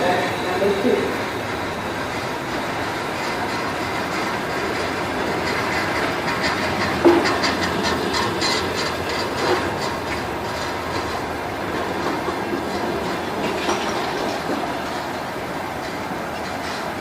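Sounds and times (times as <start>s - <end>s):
train rumble: 0.0s - 17.0s
wheels clicking over rail joints: 0.0s - 17.0s.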